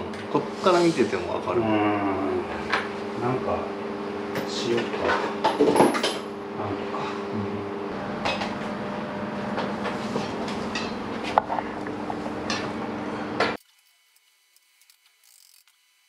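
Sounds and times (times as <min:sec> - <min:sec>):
workshop hum: 0:00.0 - 0:16.0.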